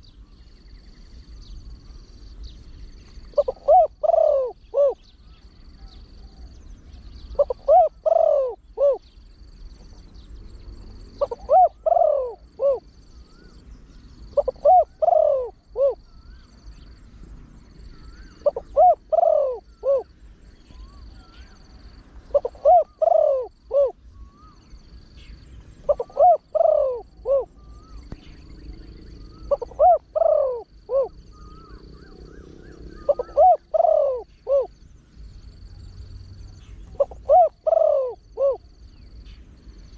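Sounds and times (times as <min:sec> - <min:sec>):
dove cooing: 0:03.2 - 0:34.8, 0:35.8 - 0:39.9.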